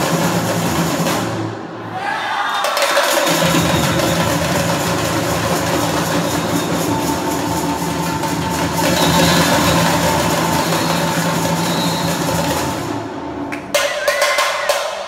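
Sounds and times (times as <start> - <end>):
samba drums and percussion: 0.0 - 1.9, 2.5 - 15.0.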